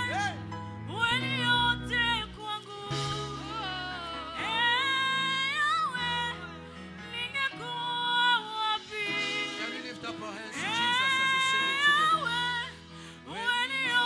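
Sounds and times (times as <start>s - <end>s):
instrumental backing: 0.0s - 14.0s
person singing gospel song: 0.0s - 14.0s.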